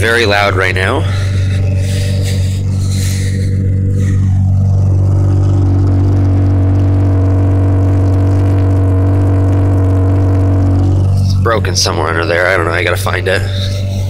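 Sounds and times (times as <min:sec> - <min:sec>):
engine idling through broken exhaust: 0:00.0 - 0:14.0.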